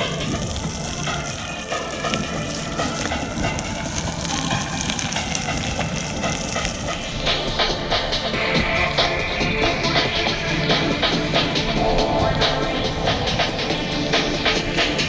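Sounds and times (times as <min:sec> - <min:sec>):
rushing wind: 0:00.0 - 0:15.0
tyre noise on wet road: 0:00.0 - 0:15.0.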